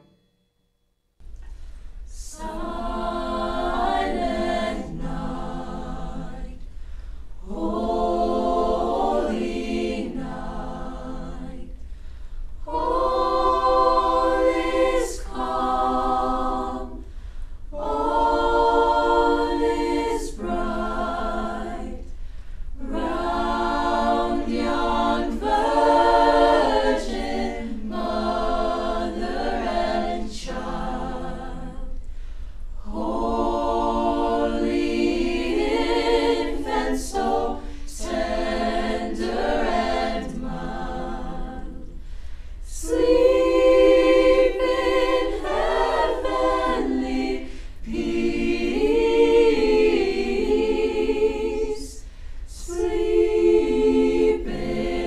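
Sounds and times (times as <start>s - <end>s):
choir singing a cappella: 1.9s - 55.0s.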